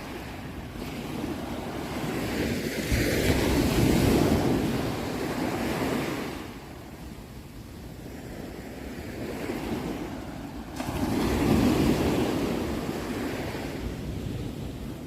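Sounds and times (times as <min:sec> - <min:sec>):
ocean waves breaking on shore: 0:00.0 - 0:15.0.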